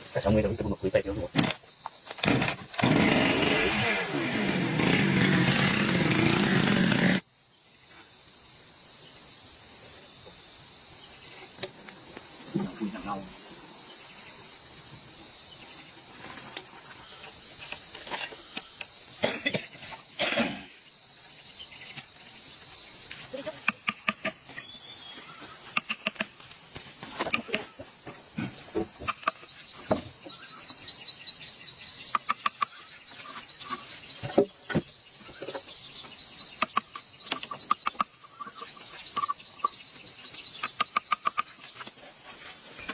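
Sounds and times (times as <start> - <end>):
high-pitched insect chorus: 0.0 - 42.9.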